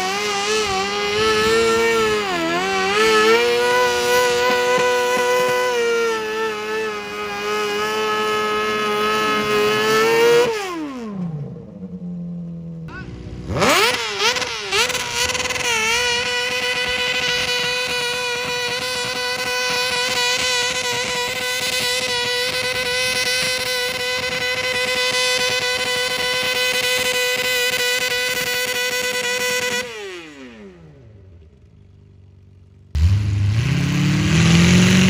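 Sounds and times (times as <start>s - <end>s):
tractor engine revving: 0.0s - 35.0s.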